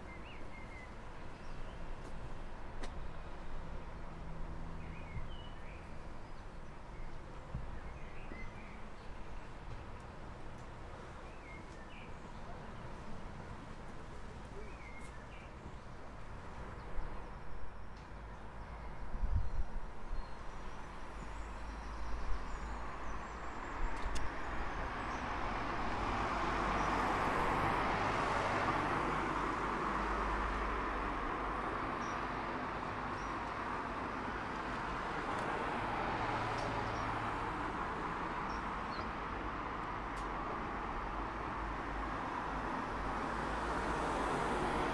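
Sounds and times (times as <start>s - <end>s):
street traffic hiss: 0.0s - 44.9s.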